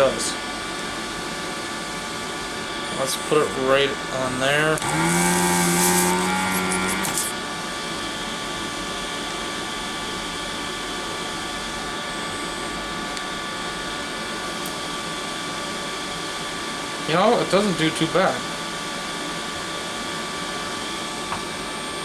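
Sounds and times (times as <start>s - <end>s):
fan hum: 0.0s - 18.7s
vacuum pump humming with suction hiss: 0.0s - 22.0s.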